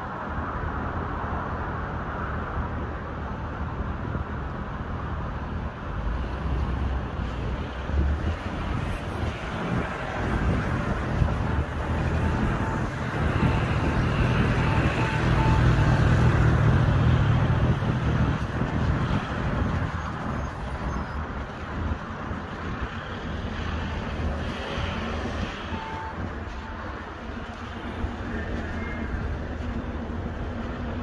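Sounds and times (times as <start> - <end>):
background traffic: 0.0 - 31.0.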